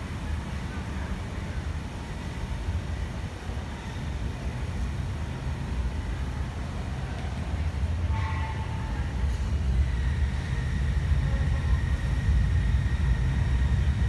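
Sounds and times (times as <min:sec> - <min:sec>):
rail vehicles running: 0:00.0 - 0:14.0.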